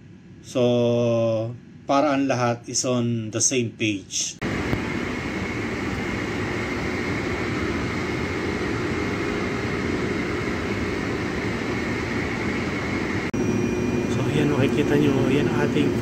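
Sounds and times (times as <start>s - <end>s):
faint high whine: 0.0s - 16.0s
machinery and ventilation hum: 0.0s - 16.0s.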